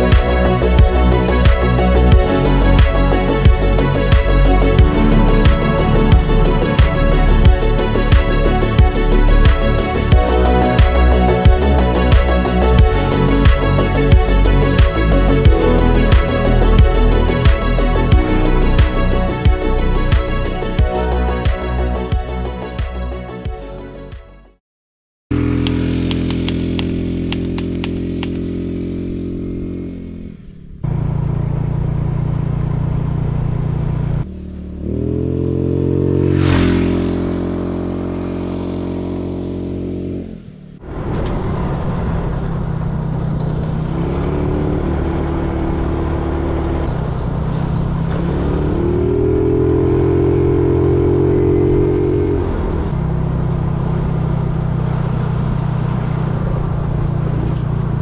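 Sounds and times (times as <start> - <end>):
motorcycle engine running: 0.0 - 23.5, 25.3 - 40.8, 42.6 - 58.0.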